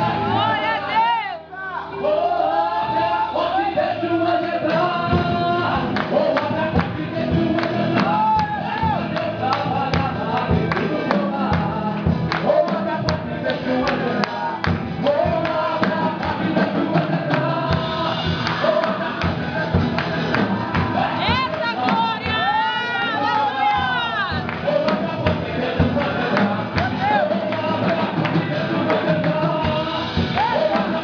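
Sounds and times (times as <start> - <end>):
congregation singing gospel: 0.0 - 31.0
steady percussion beat: 4.7 - 31.0.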